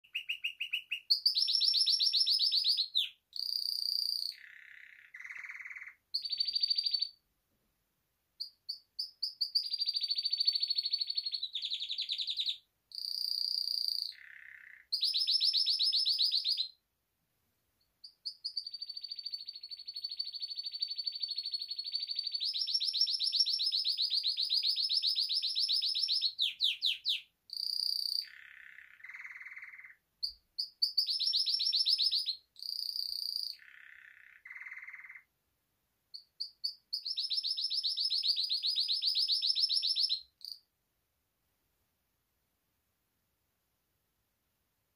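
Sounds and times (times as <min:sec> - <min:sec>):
canary singing trills: 0:00.0 - 0:07.2, 0:08.4 - 0:16.8, 0:18.0 - 0:35.3, 0:36.1 - 0:40.7.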